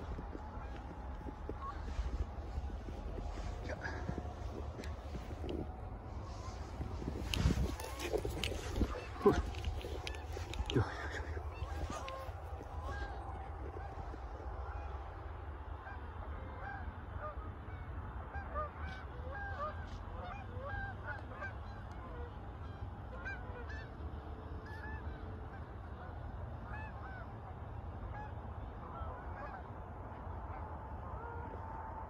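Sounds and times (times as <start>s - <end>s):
geese honking: 0.0s - 32.0s
steady low rumble: 0.0s - 32.0s.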